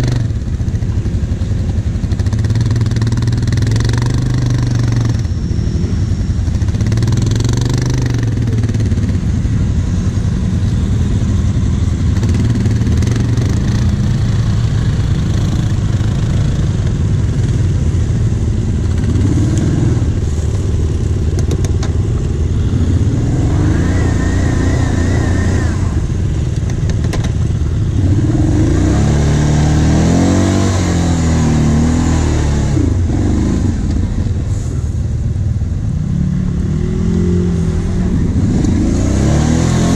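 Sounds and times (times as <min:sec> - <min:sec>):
atv engines revving: 0:00.0 - 0:39.9.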